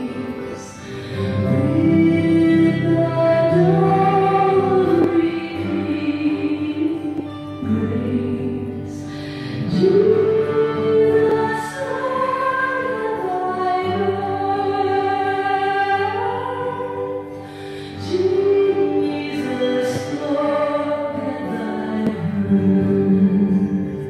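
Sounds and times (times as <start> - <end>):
choral singing: 0.0 - 24.0.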